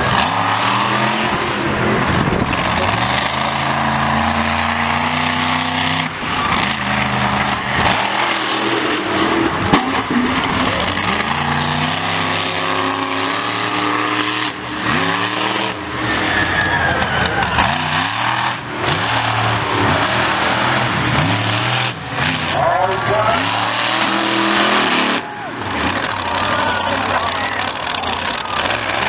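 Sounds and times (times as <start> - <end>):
vehicle engines revving: 0.0 - 29.0.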